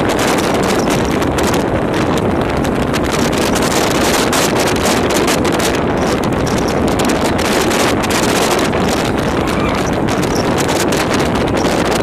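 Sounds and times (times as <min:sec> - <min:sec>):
wind blasting across microphone: 0:00.0 - 0:12.0.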